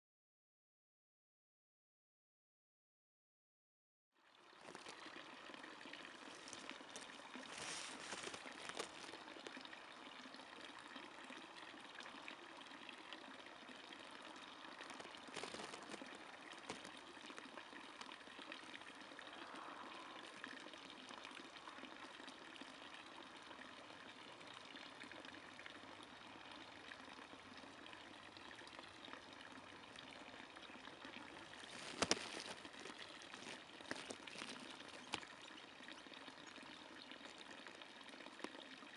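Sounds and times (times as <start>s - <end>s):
water trickling: 4.2s - 38.9s.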